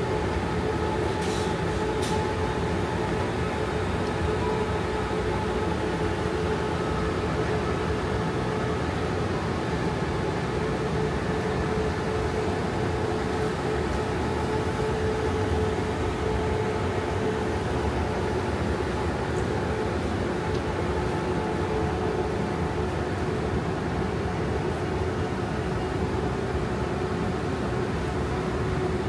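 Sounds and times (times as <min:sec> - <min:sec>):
refrigeration and ventilation hum: 0:00.0 - 0:29.0.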